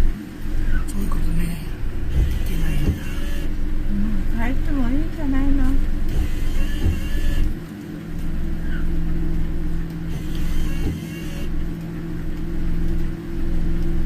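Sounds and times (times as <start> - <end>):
car engine hum: 0.0 - 14.0
road hum: 0.0 - 14.0.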